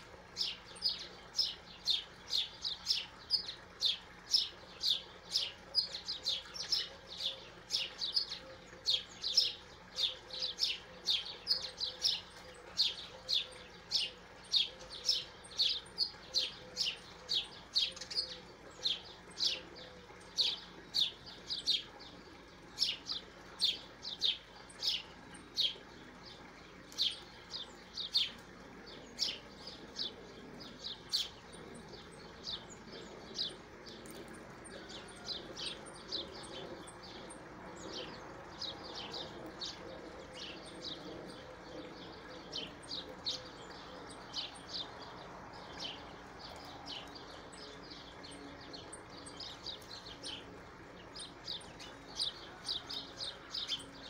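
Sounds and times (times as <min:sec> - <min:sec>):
small songbird chirping: 0:00.0 - 0:54.0.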